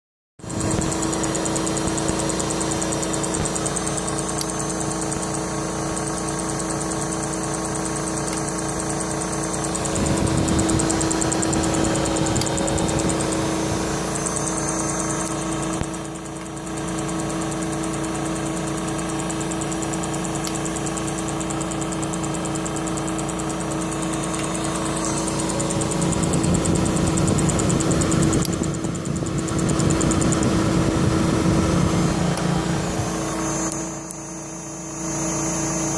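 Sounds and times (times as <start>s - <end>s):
machine chirping: 0.4s - 35.9s
steady machine hum: 0.4s - 35.9s.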